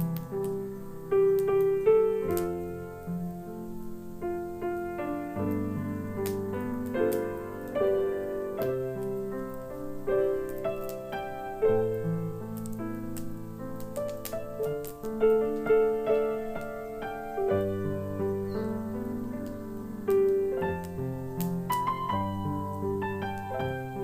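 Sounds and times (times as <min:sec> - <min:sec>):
fireplace crackling: 0:00.0 - 0:24.0
solo piano ballad: 0:00.0 - 0:24.0.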